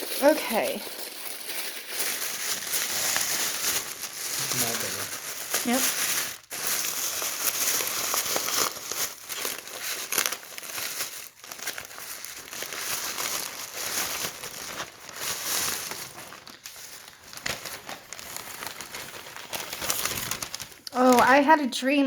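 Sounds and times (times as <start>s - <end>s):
packaging crinkling and rustling: 0.0s - 21.6s.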